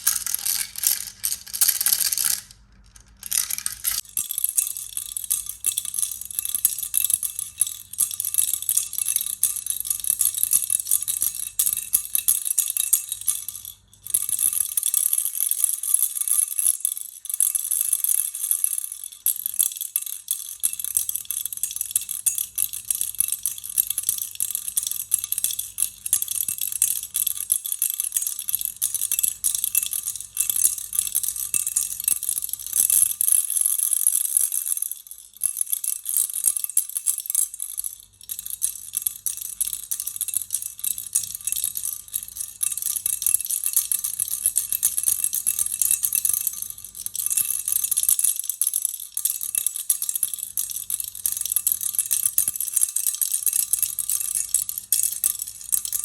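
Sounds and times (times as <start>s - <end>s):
toy rattle shaken: 0.0s - 56.0s.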